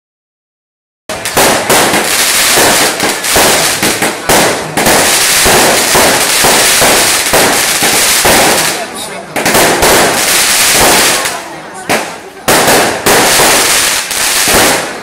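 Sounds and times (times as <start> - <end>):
fireworks crackling and banging: 1.1 - 15.0.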